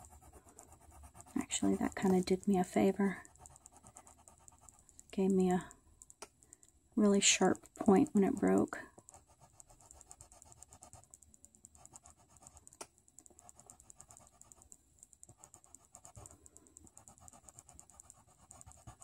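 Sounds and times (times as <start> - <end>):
pencil scratching on paper: 0.0 - 4.9, 8.0 - 19.0.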